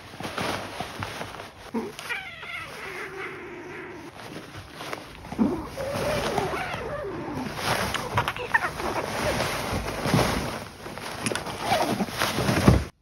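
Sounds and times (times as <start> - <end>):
paper rustling and crackling: 0.0 - 13.0.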